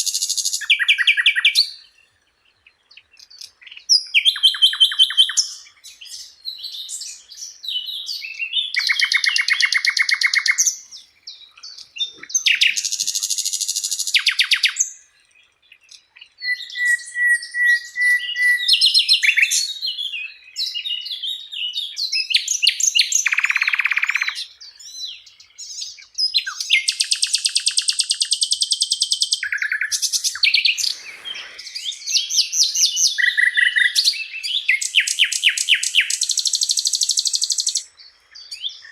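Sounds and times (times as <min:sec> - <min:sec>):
flycatcher singing: 0:00.0 - 0:38.9.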